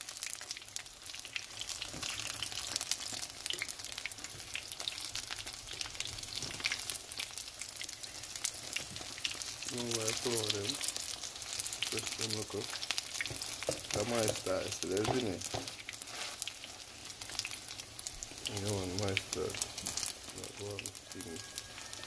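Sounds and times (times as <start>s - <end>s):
dumplings sizzling in hot oil: 0.0s - 22.0s.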